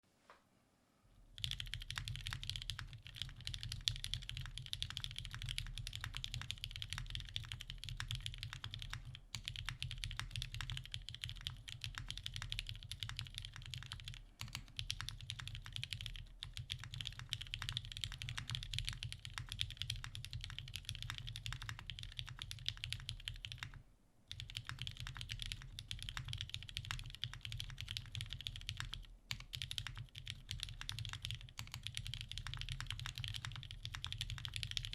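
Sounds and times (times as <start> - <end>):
fast mechanical keyboard typing: 1.3 - 34.9.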